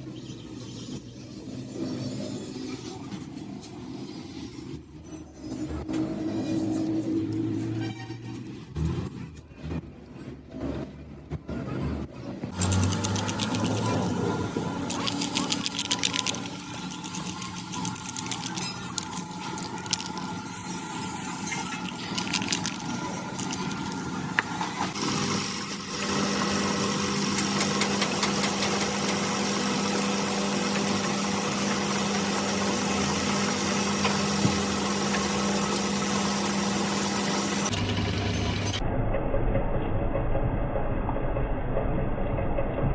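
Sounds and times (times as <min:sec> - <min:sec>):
workshop machine running: 0:00.0 - 0:42.9.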